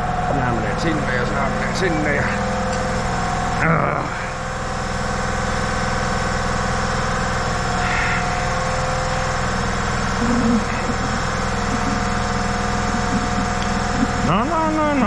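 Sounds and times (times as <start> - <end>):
machine low pulsing drone: 0.0 - 15.0.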